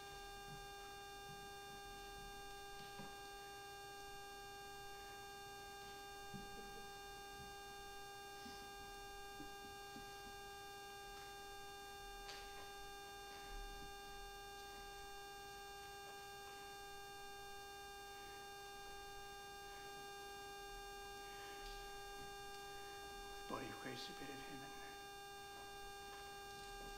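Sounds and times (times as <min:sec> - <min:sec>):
steady tonal hum: 0:00.0 - 0:26.9.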